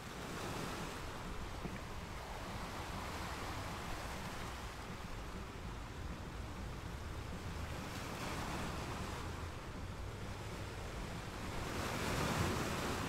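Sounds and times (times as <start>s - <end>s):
sea waves washing: 0.0s - 13.0s.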